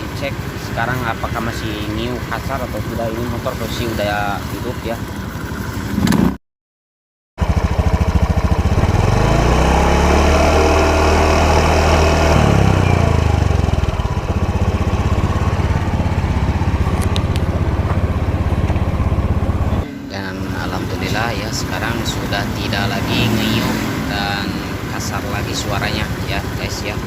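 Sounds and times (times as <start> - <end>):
scooter engine idling and revving: 0.0 - 6.4, 7.4 - 27.0.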